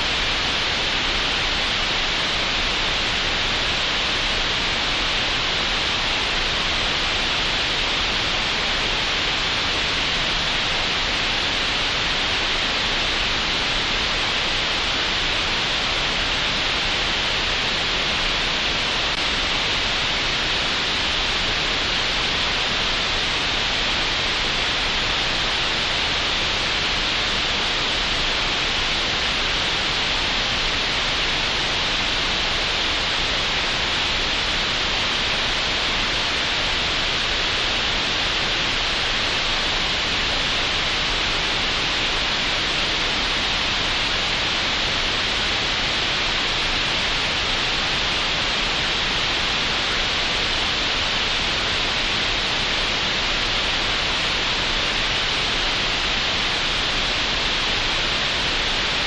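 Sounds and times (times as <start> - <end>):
steady synthetic hiss: 0.0 - 59.0.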